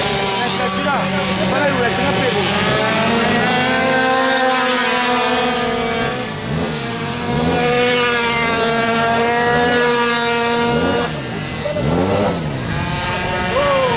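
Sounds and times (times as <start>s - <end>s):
bikes passing by: 0.0s - 13.9s
two-stroke minibike engines racing: 0.0s - 13.9s.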